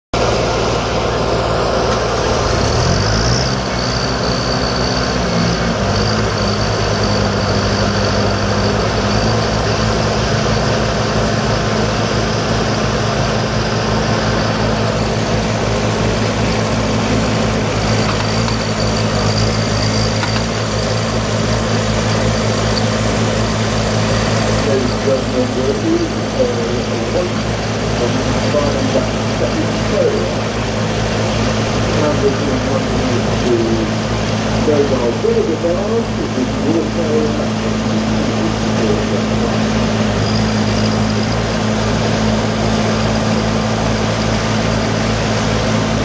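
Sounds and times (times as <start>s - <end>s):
mower engine running loudly: 0.1s - 46.0s.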